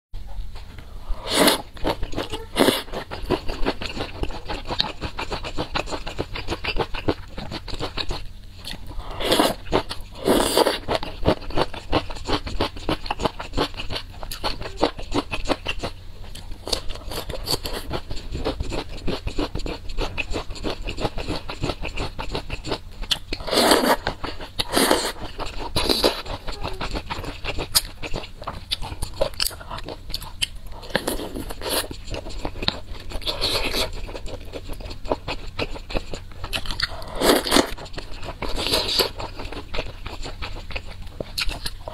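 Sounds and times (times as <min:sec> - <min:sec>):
crunchy chewing: 0:00.6 - 0:41.9.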